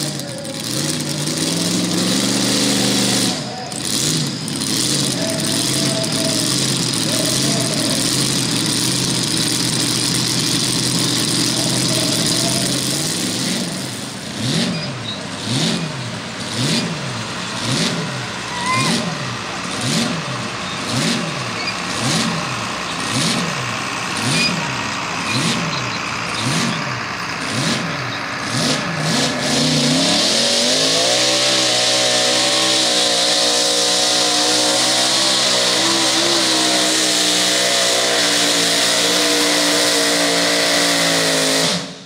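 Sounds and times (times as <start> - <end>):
tractor engine revving: 0.0 - 42.0.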